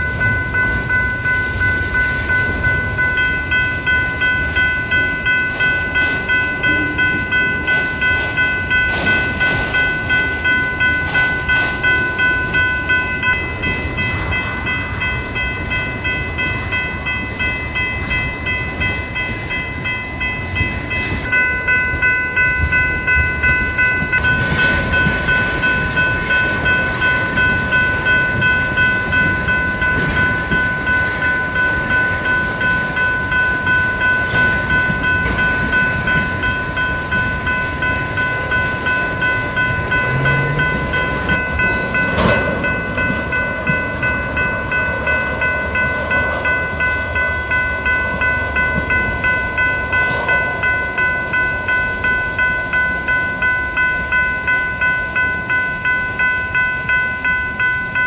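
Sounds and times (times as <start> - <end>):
crossing warning bells ringing: 0.0 - 58.0
freight train wheels rumbling: 0.0 - 58.0.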